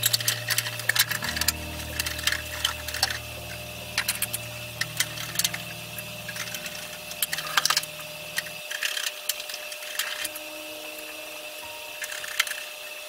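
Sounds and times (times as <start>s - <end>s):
low steady background tones: 0.0s - 13.0s.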